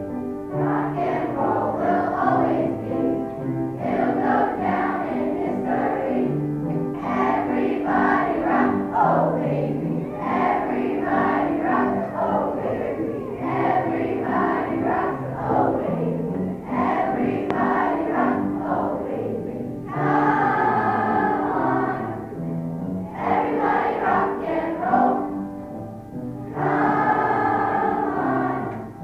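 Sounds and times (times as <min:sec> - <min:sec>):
children's choir singing: 0:00.0 - 0:25.6, 0:26.4 - 0:29.0.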